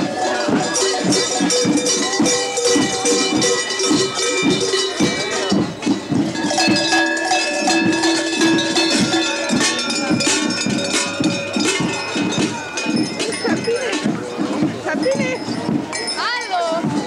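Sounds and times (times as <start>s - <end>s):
large cowbells clanging: 0.0s - 17.0s.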